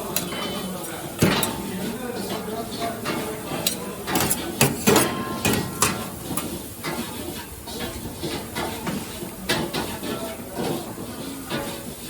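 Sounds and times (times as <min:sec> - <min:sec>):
kitchen utensils clattering: 0:00.0 - 0:11.9.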